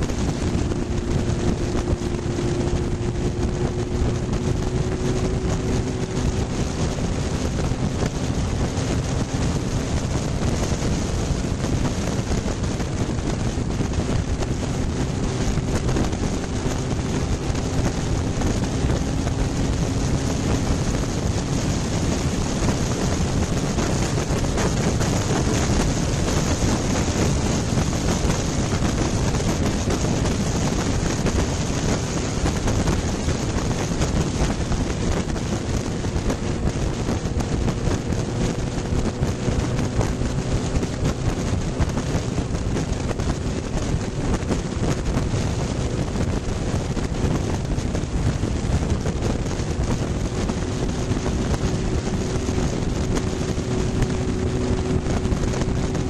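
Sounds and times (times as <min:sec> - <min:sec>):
faint motorcycle engine hum: 0:00.0 - 0:56.0
wind rushing over microphone: 0:00.0 - 0:56.0.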